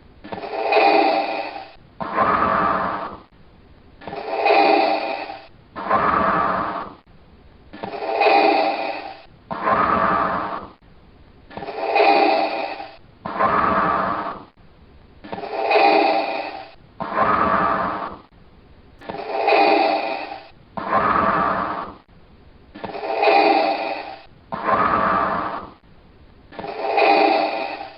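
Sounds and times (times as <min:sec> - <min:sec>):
mechanical respirator breathing: 0:00.3 - 0:03.3, 0:04.0 - 0:07.0, 0:07.8 - 0:10.8, 0:11.5 - 0:14.6, 0:15.3 - 0:18.3, 0:19.0 - 0:22.1, 0:22.8 - 0:25.8, 0:26.5 - 0:27.9.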